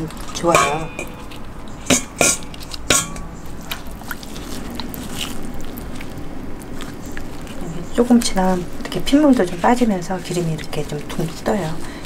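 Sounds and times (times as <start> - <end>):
water splashing: 0.0 - 12.0
wet squelching: 0.0 - 12.0.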